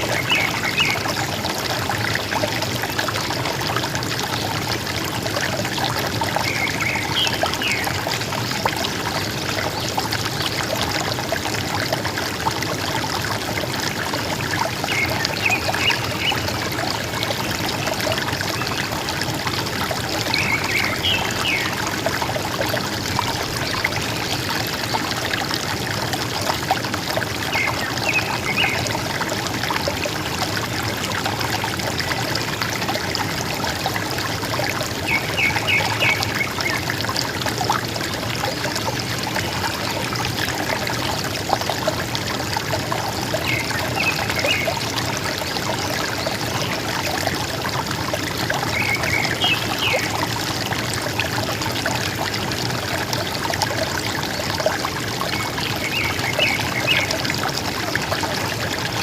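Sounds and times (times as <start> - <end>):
river water gurgling: 0.0 - 59.0.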